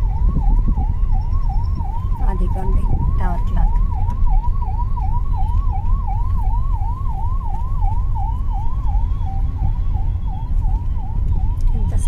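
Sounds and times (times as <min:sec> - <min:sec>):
car rumbling: 0:00.0 - 0:12.0
electronic siren warbling: 0:00.0 - 0:12.0.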